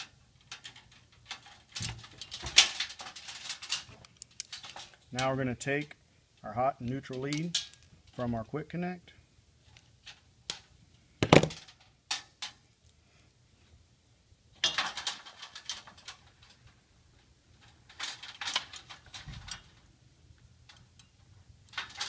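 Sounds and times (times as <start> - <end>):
rustle and scrape of wires: 0.0 - 13.9, 14.5 - 22.0.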